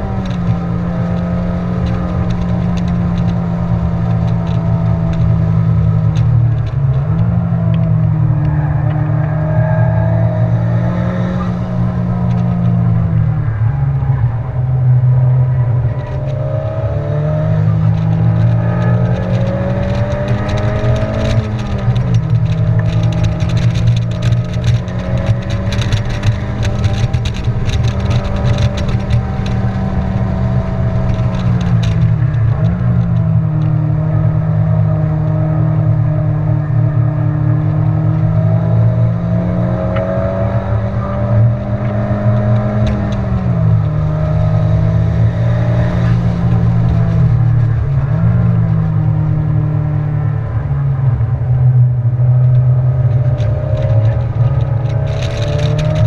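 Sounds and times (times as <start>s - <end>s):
car engine revving hard: 0.0s - 13.1s, 15.0s - 50.6s, 52.1s - 56.0s
road and wind noise: 0.0s - 56.0s.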